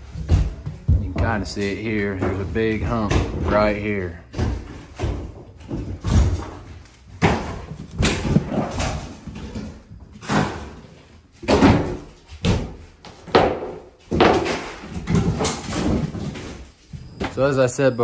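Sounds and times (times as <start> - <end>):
flooring being torn out: 0.0 - 16.7.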